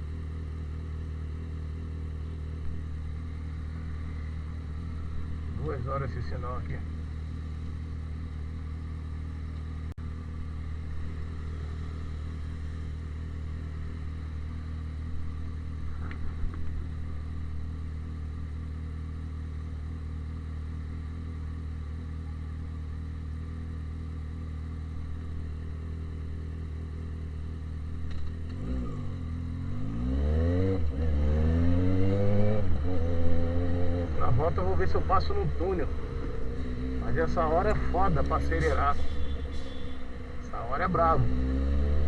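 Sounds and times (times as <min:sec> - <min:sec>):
motorcycle engine idling and revving: 0:00.0 - 0:42.0.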